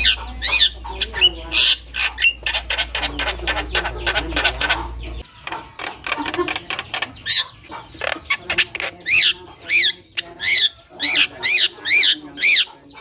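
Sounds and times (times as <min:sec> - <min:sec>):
myna chattering and whistling: 0:00.0 - 0:13.0.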